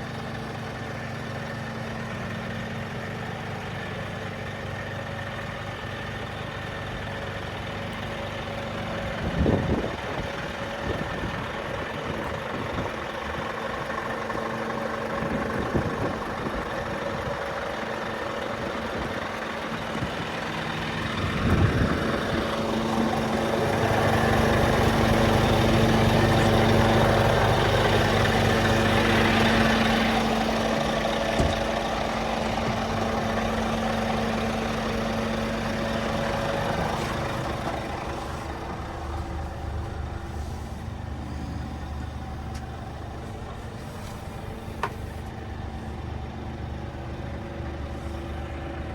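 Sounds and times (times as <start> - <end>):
truck diesel engine idling: 0.0 - 48.9.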